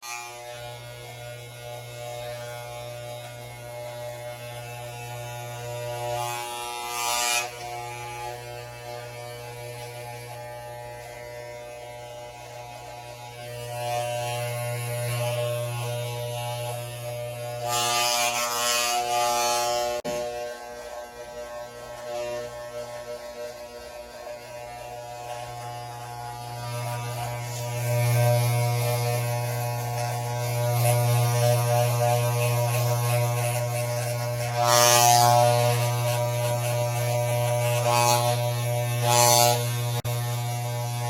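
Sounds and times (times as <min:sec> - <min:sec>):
electric hair trimmer buzzing: 0:00.0 - 0:41.0.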